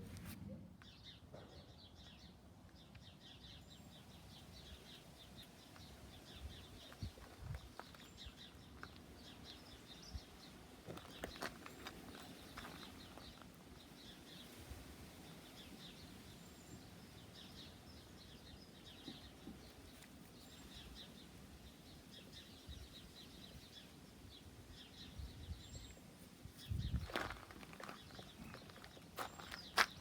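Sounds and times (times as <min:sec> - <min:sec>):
faint birds chirping: 0:00.0 - 0:30.0
low steady background noise: 0:00.0 - 0:30.0.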